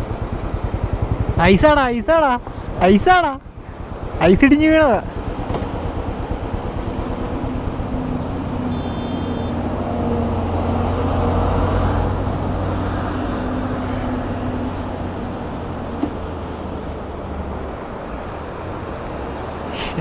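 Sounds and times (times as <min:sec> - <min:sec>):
truck passing by: 0:03.6 - 0:20.0.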